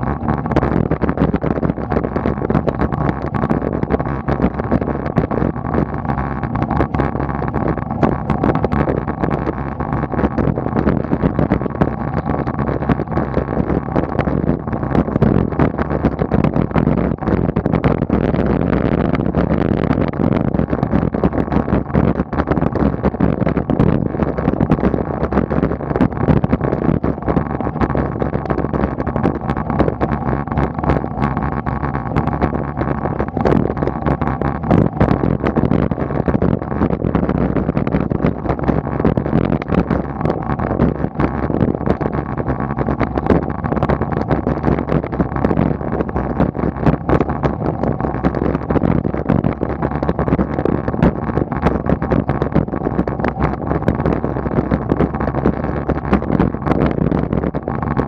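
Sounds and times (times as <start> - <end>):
road noise: 0.0 - 58.0
wind noise: 0.0 - 58.0.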